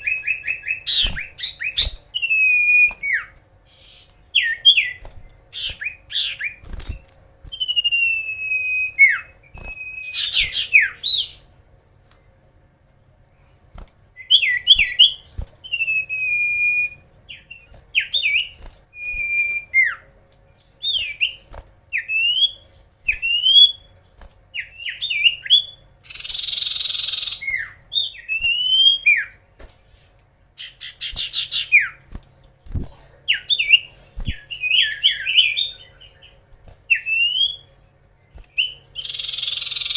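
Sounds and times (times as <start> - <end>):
bird whistling song: 0.0 - 11.4, 14.2 - 20.0, 20.8 - 23.9, 24.6 - 29.4, 30.6 - 32.0, 33.3 - 37.8, 38.4 - 39.9.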